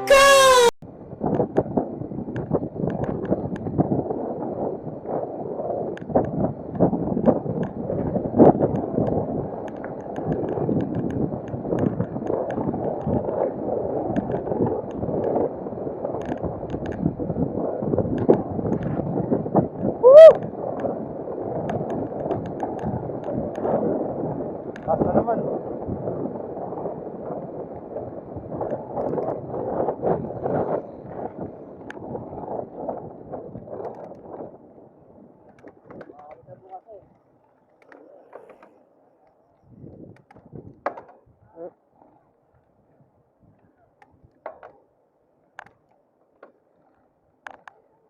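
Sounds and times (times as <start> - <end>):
wind buffeting microphone: 0.8 - 37.4, 39.5 - 44.4.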